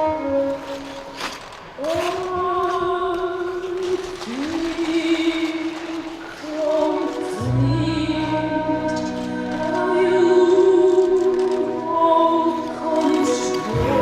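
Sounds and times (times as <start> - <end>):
person singing long notes: 0.0 - 14.0.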